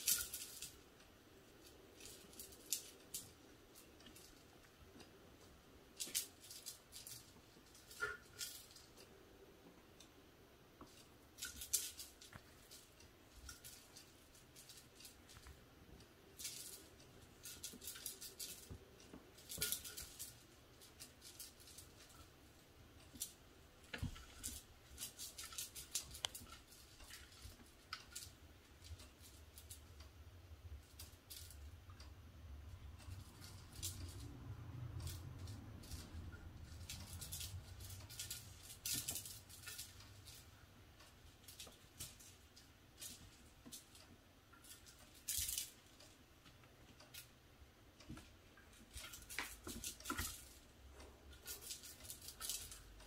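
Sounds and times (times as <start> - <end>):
kitten scratching and clawing: 0.0 - 10.2, 10.8 - 53.0
toy clicking and rattling: 0.0 - 53.0.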